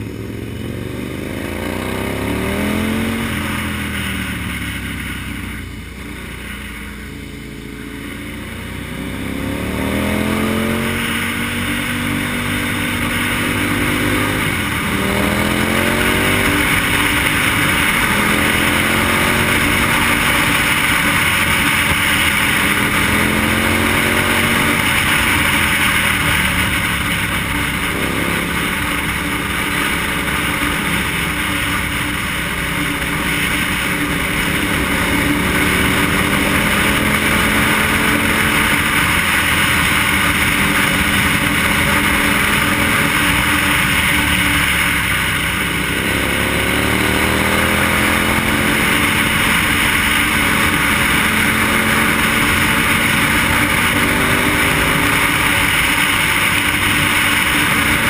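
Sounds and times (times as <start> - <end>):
motorcycle engine under way: 0.0 - 58.0.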